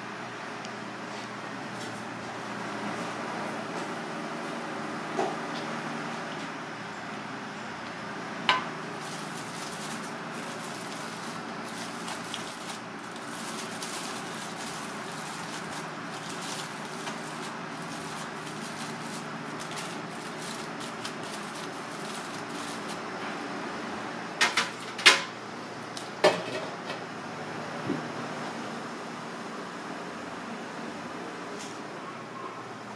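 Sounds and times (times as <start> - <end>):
workspace background hum: 0.0 - 32.9.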